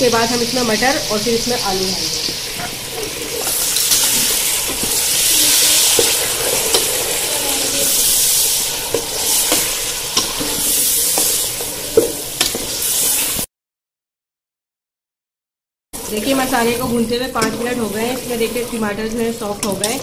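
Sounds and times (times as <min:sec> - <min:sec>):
food sizzling in hot oil: 0:00.0 - 0:13.5, 0:16.0 - 0:20.0.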